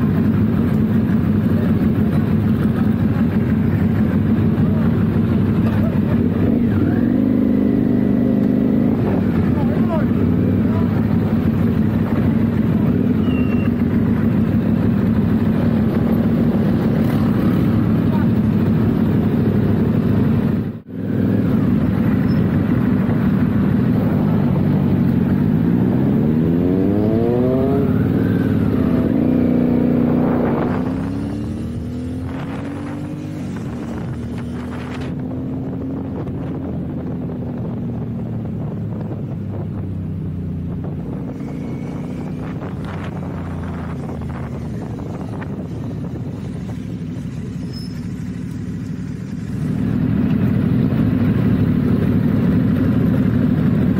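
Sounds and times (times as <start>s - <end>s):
motorcycle engine: 0.0s - 53.9s
rush of wind: 0.0s - 53.9s.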